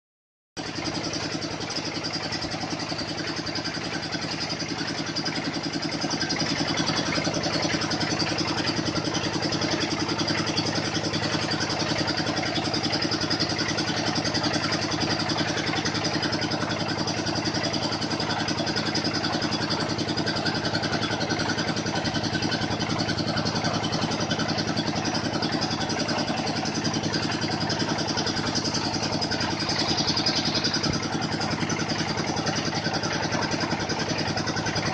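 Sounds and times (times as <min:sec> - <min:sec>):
drilling machine engine running: 0:00.6 - 0:34.9.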